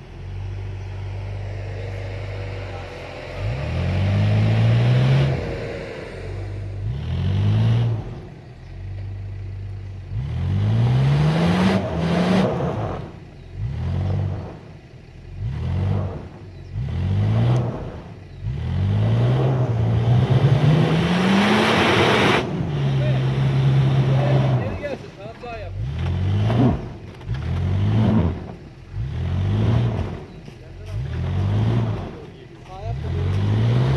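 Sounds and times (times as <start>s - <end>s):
engine revving and idling: 0.0s - 33.9s.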